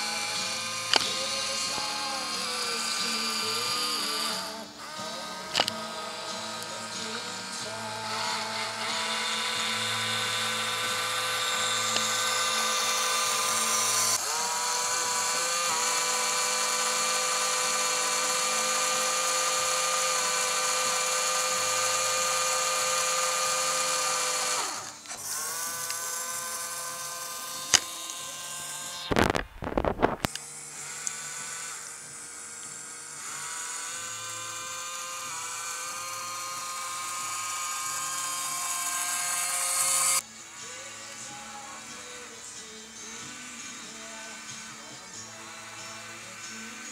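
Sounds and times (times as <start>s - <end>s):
electric motors whining: 0.0s - 46.9s.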